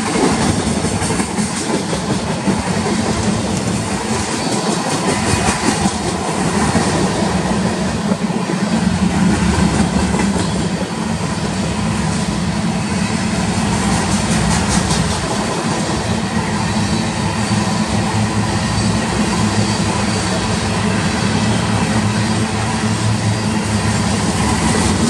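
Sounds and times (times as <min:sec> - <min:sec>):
freight train rolling past: 0:00.0 - 0:25.0
steel wheels clattering on rails: 0:00.0 - 0:25.0.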